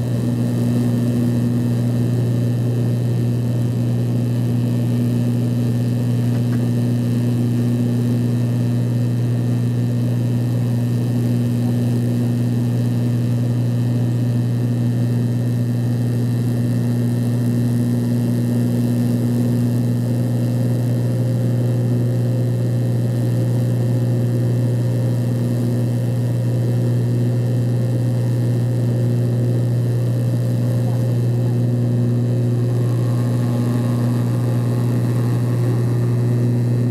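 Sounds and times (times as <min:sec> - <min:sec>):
propeller drone in aircraft cabin: 0:00.0 - 0:36.9.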